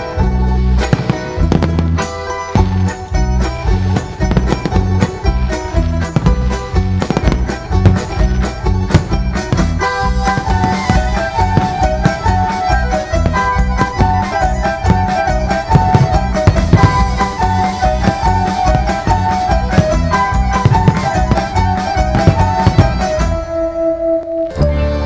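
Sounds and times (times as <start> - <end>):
firework bangs and crackles: 0.0 - 23.8.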